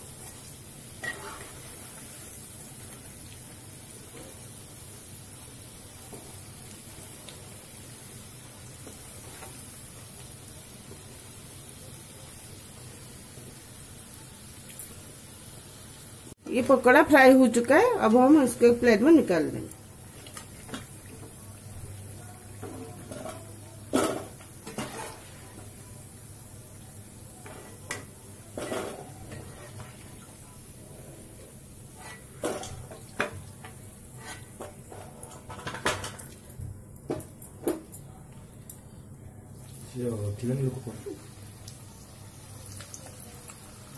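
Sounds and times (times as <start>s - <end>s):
fritters sizzling in oil: 0.0s - 43.9s.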